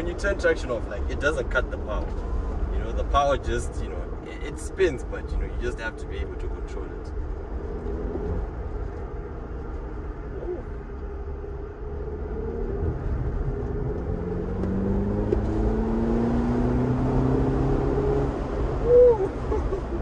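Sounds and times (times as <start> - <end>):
car engine from inside cabin: 0.0 - 20.0.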